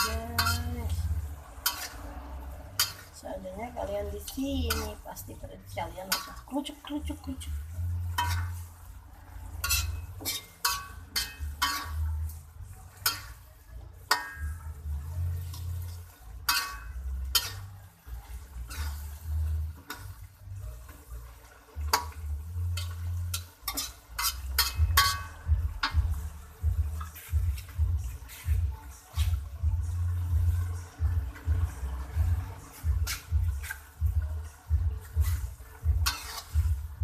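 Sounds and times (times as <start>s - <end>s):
spatula scraping a pan: 0.0s - 37.0s.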